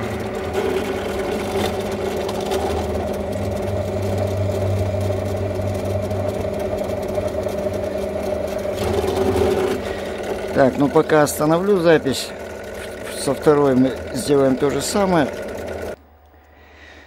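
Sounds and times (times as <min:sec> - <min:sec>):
drill bit drilling copper: 0:00.0 - 0:16.0
drill press motor running: 0:00.0 - 0:16.0.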